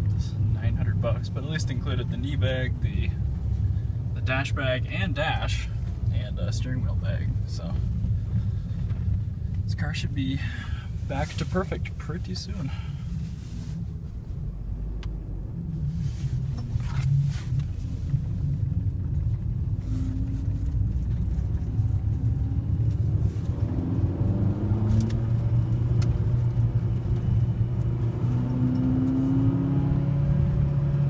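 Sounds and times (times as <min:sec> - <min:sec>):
car engine accelerating: 0:00.0 - 0:31.0
road rumble: 0:00.0 - 0:31.0.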